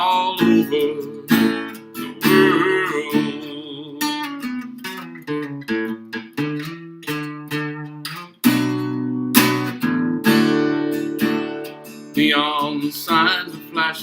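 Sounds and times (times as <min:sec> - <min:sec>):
acoustic guitar: 0:00.0 - 0:14.0.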